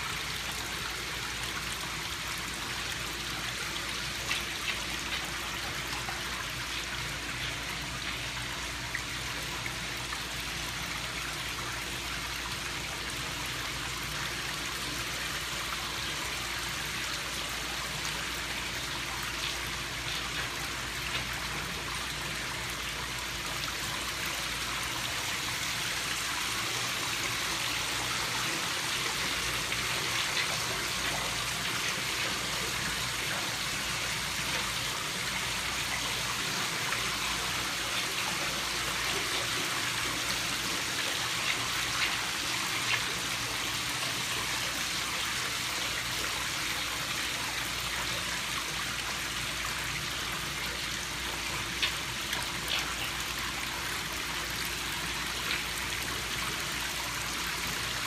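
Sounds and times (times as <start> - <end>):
water running and trickling: 0.0 - 58.0.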